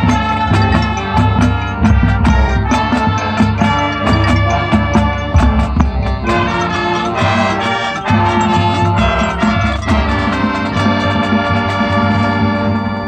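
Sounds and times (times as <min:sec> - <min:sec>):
heavy low drum: 0:00.0 - 0:11.7
sharp percussion hits: 0:00.0 - 0:12.6
marching band playing: 0:00.0 - 0:13.0.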